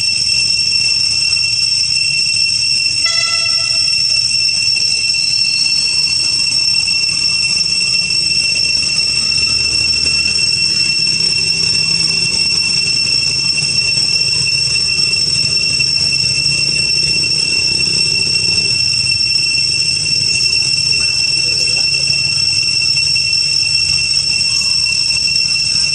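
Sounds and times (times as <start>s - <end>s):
cicadas droning: 0.0s - 25.9s.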